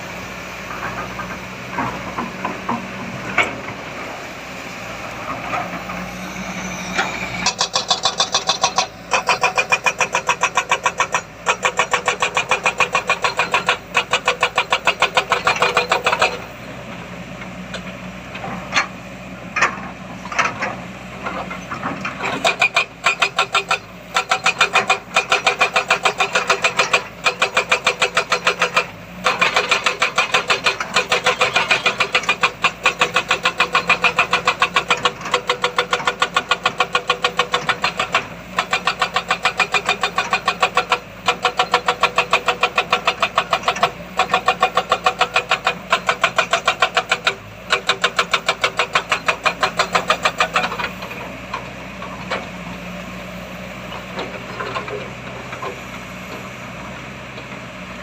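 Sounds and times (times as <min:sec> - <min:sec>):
heavy machine engine pulsing: 0:00.0 - 0:58.0.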